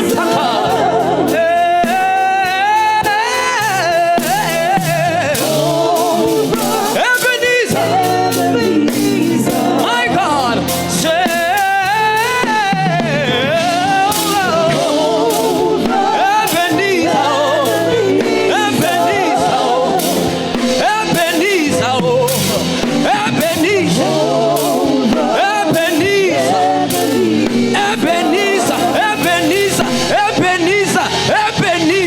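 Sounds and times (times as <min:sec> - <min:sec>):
band playing gospel music: 0:00.0 - 0:32.0
steady drum beat: 0:00.0 - 0:32.0.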